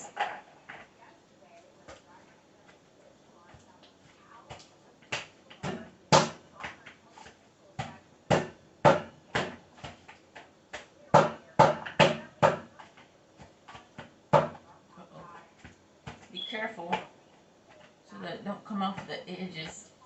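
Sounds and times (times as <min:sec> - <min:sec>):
almonds pounded in a bowl: 0:01.8 - 0:14.7, 0:15.5 - 0:20.0.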